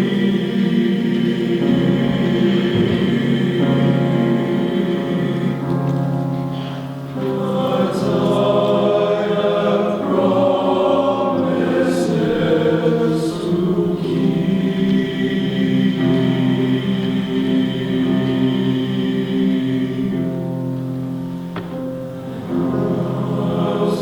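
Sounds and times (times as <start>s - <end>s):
men's chorus singing: 0.0s - 6.3s, 7.2s - 20.7s, 21.6s - 24.0s.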